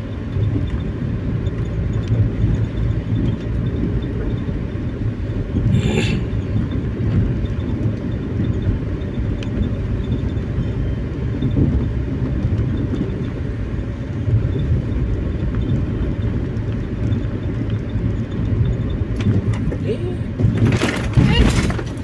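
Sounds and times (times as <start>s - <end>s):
vehicle cabin rumble: 0.0s - 22.0s.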